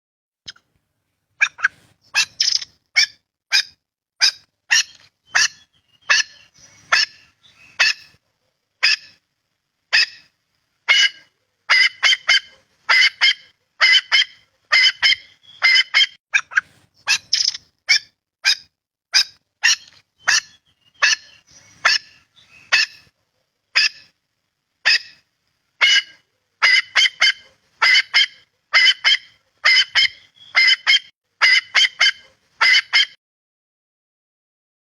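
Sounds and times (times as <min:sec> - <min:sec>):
bird calling: 0:01.4 - 0:08.2, 0:08.8 - 0:09.2, 0:09.9 - 0:24.2, 0:24.8 - 0:33.2.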